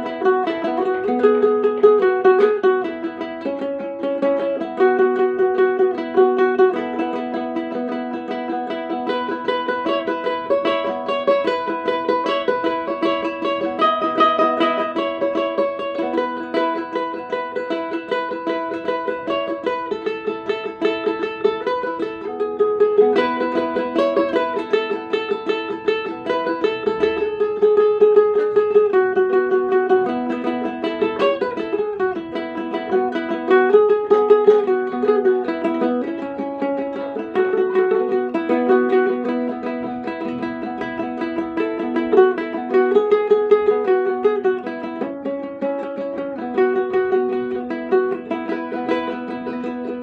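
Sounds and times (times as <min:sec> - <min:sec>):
plucked string instrument melody: 0:00.0 - 0:50.0.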